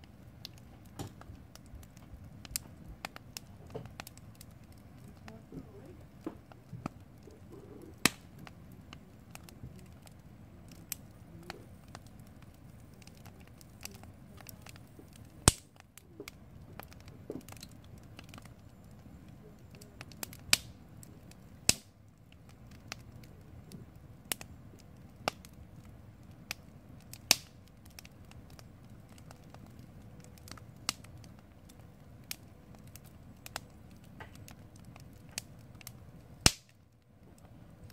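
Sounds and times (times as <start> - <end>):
campfire crackling and popping: 0.0 - 37.9
low steady hiss: 0.0 - 37.9.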